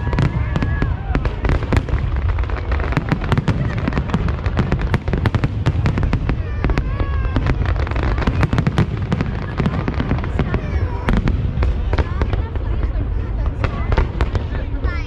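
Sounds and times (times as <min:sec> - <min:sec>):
fireworks crackling bangs: 0:00.0 - 0:15.0.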